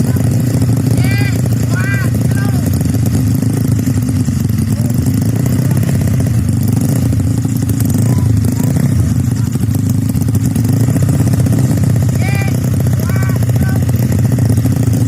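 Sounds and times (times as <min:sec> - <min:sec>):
loud scooter engine running: 0:00.0 - 0:15.0.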